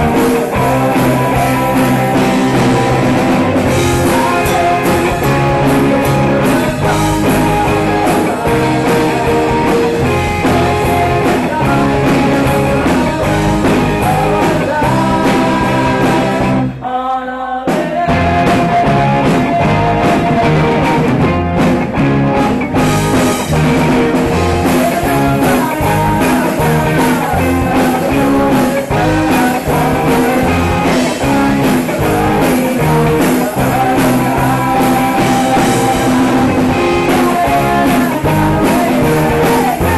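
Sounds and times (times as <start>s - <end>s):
drum kit: 0.0s - 16.8s, 17.7s - 39.9s
electric guitars: 0.0s - 16.9s, 17.8s - 39.9s.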